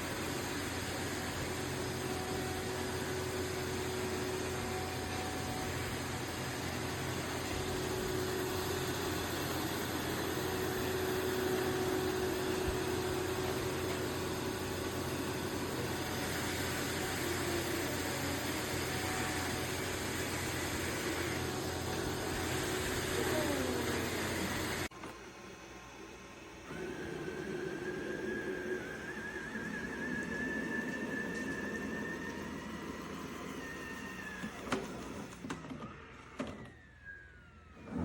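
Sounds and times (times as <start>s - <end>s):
robot vacuum motor whirring: 1.2s - 24.9s, 26.7s - 38.0s.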